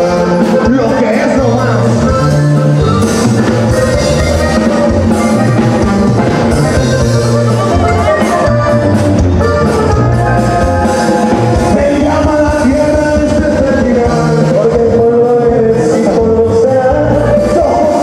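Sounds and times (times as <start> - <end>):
bass line: 0.0 - 18.0
live band music: 0.0 - 18.0
steady drumbeat: 0.0 - 18.0.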